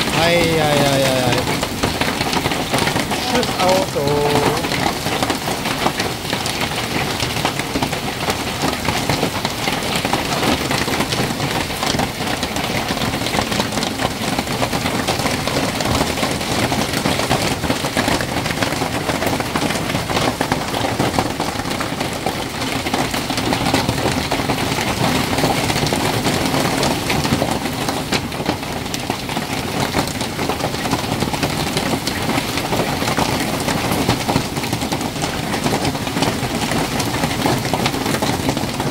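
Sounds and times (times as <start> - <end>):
hail and rain hitting paving: 0.0 - 38.9.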